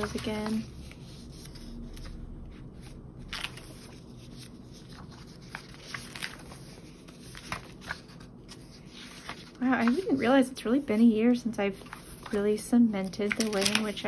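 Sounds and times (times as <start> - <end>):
paper pages rustling: 0.0 - 14.0.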